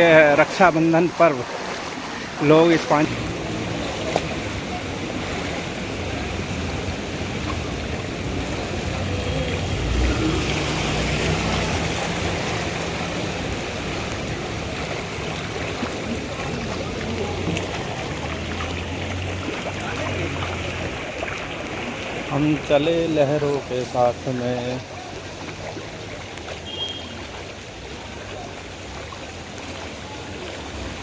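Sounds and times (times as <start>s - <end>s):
floodwater sloshing and splashing: 0.0s - 31.0s.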